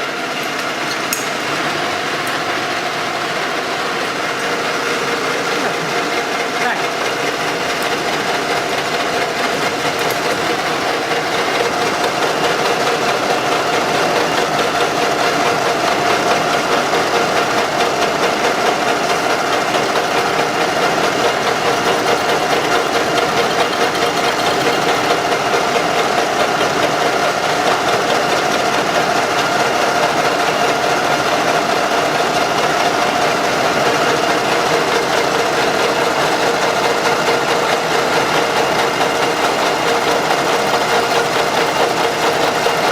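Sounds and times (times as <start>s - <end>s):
metal lathe whining: 0.0s - 42.9s.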